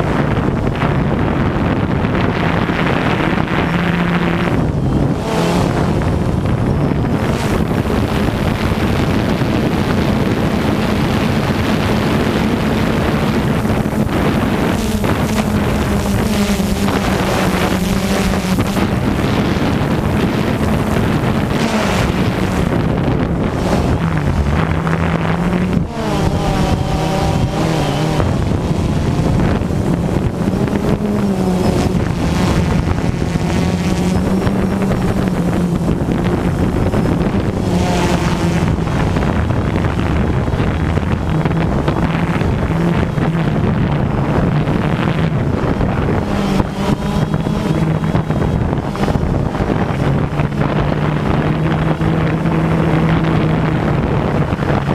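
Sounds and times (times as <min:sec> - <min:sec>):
drone motors buzzing: 0:00.0 - 0:54.9
wind noise on microphone: 0:00.0 - 0:54.9.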